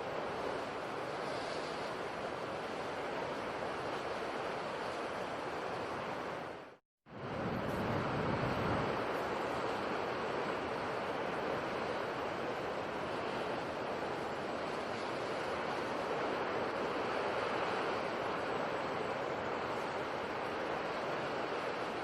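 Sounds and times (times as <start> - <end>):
sea surf waves: 0.0 - 22.0.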